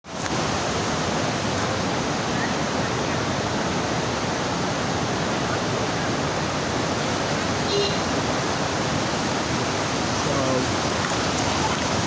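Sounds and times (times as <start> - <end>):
river water rushing: 0.1 - 12.0.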